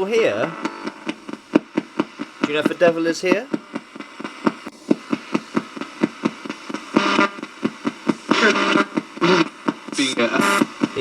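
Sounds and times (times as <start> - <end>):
broadcast voices: 0.0 - 11.0
fast radio scanning clicks: 0.0 - 11.0
radio hiss: 0.0 - 11.0.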